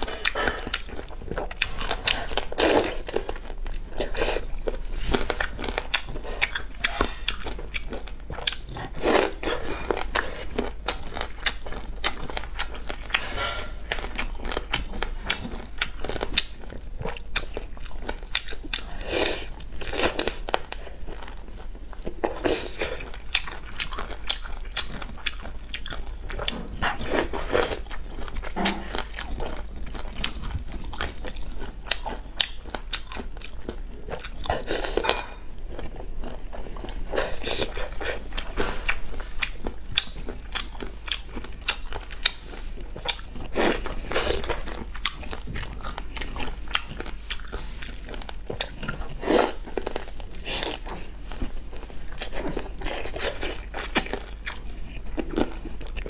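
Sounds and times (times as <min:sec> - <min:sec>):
wet mouth chewing: 0:00.0 - 0:56.0.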